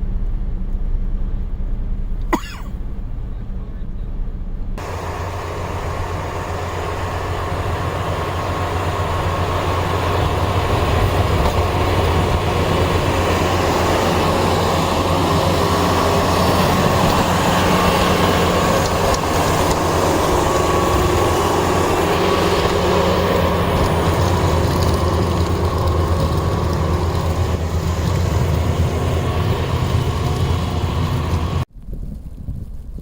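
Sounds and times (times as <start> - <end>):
heavy vehicle engine hum: 0.0 - 31.7.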